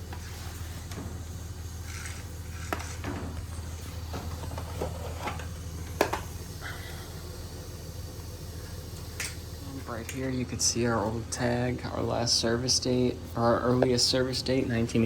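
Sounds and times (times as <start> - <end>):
boiler humming: 0.0 - 15.0.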